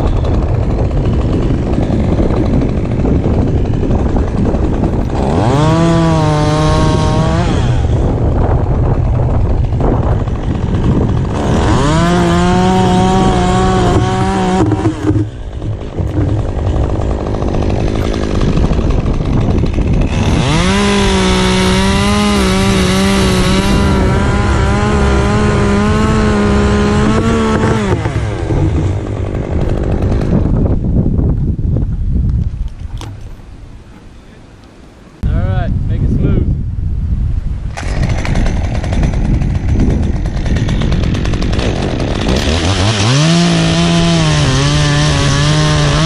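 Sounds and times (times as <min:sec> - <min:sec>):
chainsaw cutting a limb: 0:00.0 - 0:30.8, 0:37.7 - 0:46.0.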